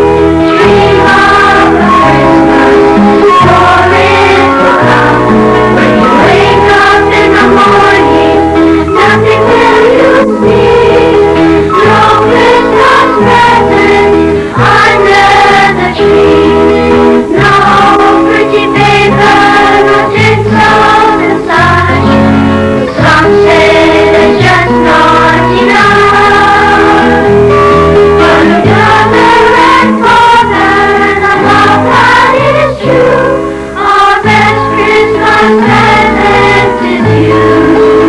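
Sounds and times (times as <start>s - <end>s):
children's choir singing: 0.0s - 38.0s.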